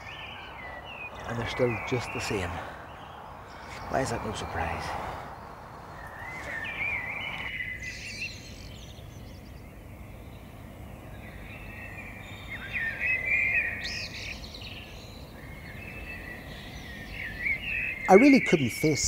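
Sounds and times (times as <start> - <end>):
birds singing: 0.0 - 19.0
low background noise: 0.0 - 19.0.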